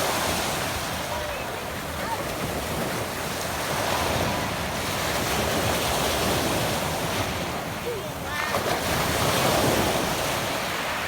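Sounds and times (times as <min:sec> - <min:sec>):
waves on a pebble beach: 0:00.0 - 0:11.0.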